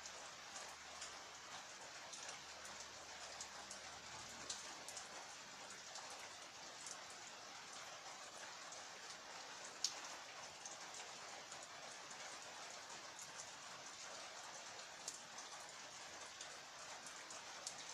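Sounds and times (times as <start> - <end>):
raindrops ticking: 0.0 - 7.8, 8.6 - 17.9
steady rain falling: 0.0 - 17.9.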